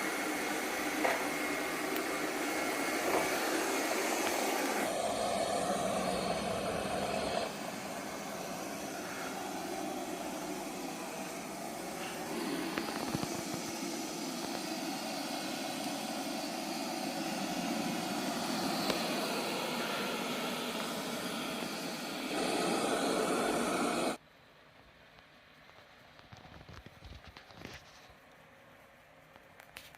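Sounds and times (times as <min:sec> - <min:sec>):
robot vacuum whirring: 0:00.0 - 0:24.2.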